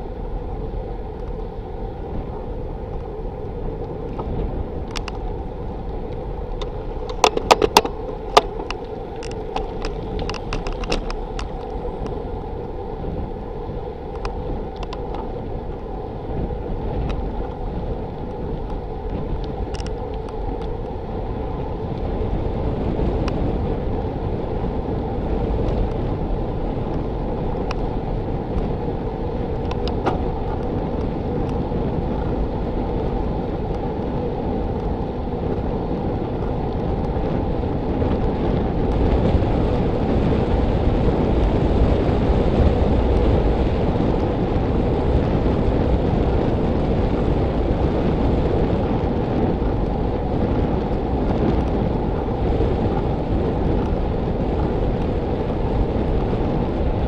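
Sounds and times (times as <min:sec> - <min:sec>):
low road rumble: 0:00.0 - 0:57.0
wind rushing over microphone: 0:00.0 - 0:57.0.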